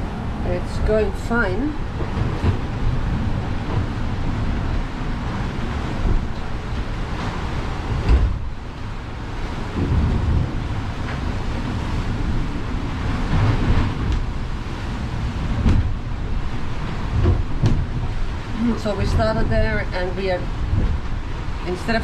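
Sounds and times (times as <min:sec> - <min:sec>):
wind and sea rumble: 0:00.0 - 0:22.0.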